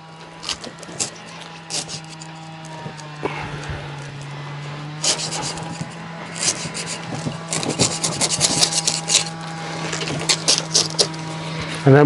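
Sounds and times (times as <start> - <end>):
velcro tearing: 0.0 - 4.3, 4.9 - 11.8.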